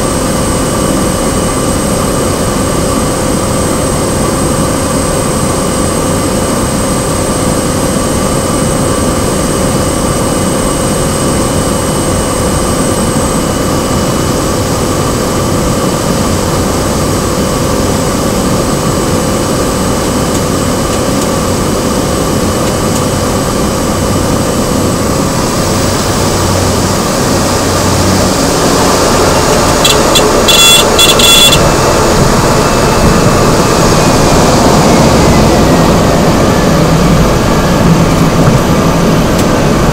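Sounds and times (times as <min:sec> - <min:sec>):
high engine whine: 0:00.0 - 0:39.9
turboprop engine drone: 0:00.0 - 0:39.9.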